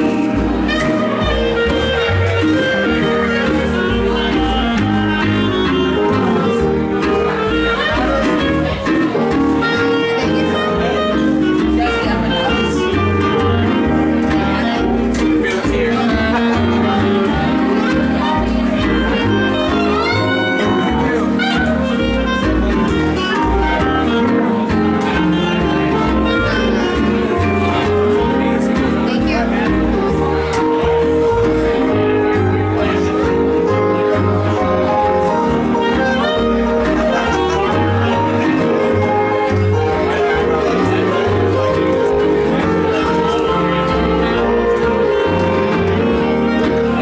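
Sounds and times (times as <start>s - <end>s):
country band playing: 0.0s - 47.0s
fiddle: 0.0s - 47.0s
sliding notes: 0.0s - 47.0s.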